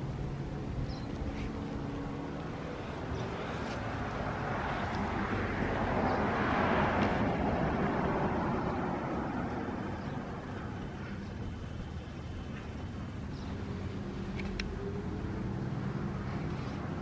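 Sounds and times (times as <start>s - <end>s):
vehicle passing by: 0.0s - 11.6s, 12.5s - 17.0s.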